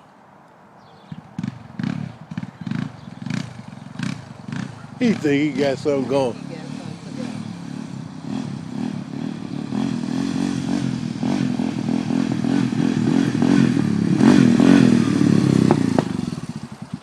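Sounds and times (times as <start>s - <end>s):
atv engine revving: 1.1s - 17.0s.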